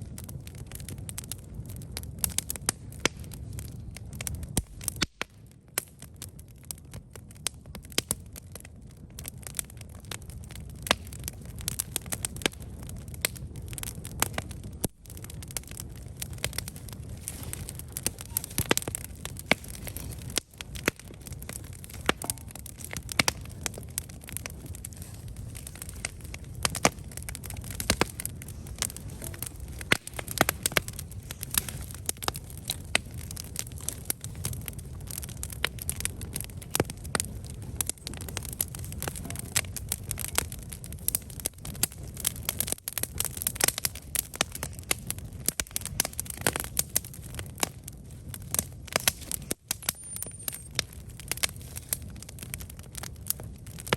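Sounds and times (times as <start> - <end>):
campfire crackling and popping: 0.0 - 53.9
low rumble of flames: 0.0 - 53.9.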